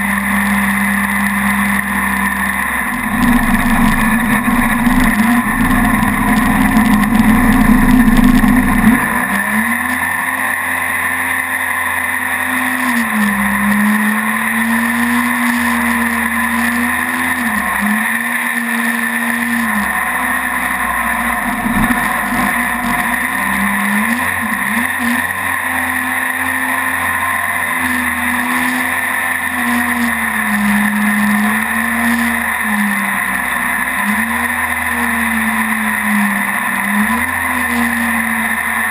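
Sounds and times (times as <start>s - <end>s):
jet boat engine revving: 0.0s - 38.9s.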